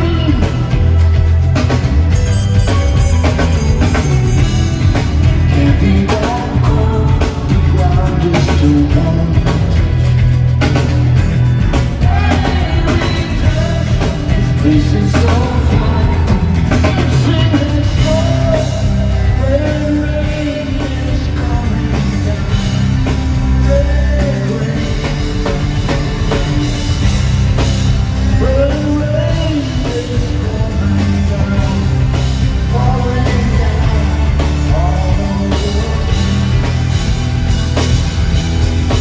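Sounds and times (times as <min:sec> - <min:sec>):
man singing lead vocal: 0:00.0 - 0:01.8, 0:03.3 - 0:10.9, 0:11.7 - 0:37.5
live rock band: 0:00.0 - 0:39.0.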